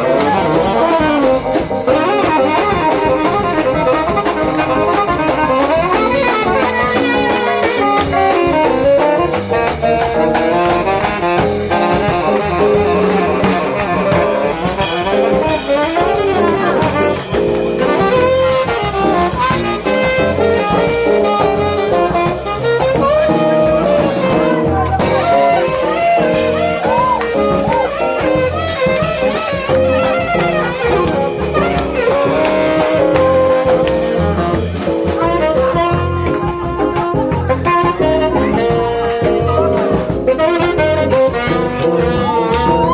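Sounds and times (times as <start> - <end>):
drums: 0.0 - 42.9
horn melody: 0.0 - 42.9
jazz quartet playing: 0.0 - 42.9.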